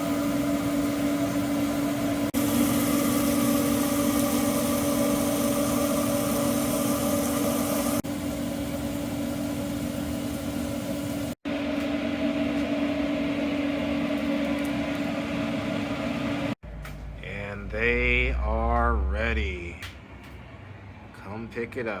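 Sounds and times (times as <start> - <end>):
machine hum: 0.0 - 21.2.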